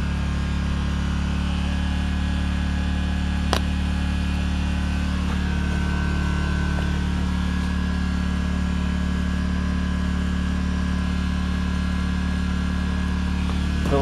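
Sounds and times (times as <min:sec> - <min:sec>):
generator engine running: 0:00.0 - 0:14.0.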